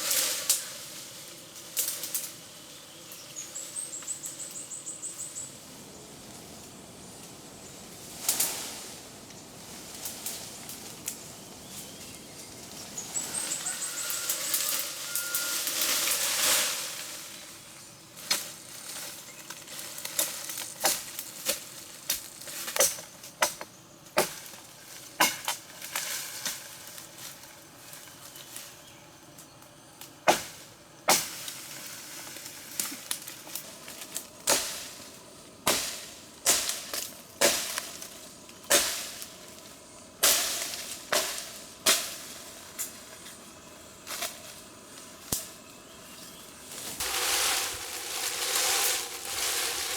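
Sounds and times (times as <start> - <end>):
faint hiss: 0.0 - 49.9.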